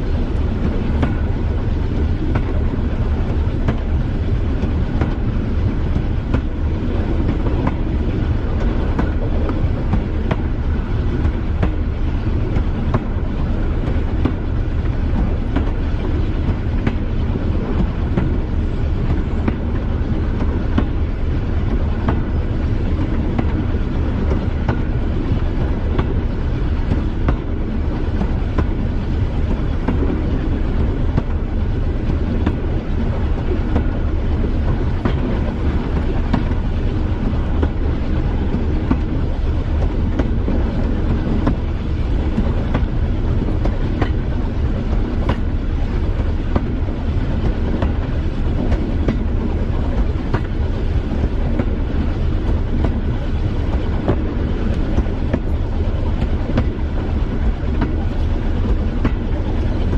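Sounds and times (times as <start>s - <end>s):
diesel train engine drone: 0.0s - 59.9s
wheels clicking over rail joints: 0.0s - 59.9s.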